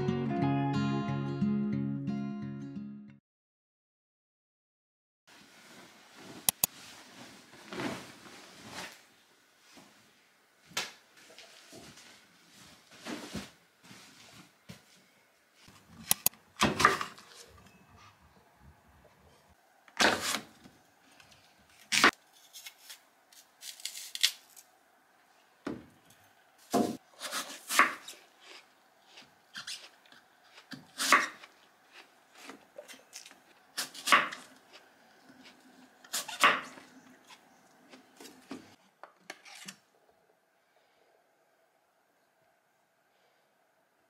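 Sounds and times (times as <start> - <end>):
faint steady hum: 5.4 - 44.0.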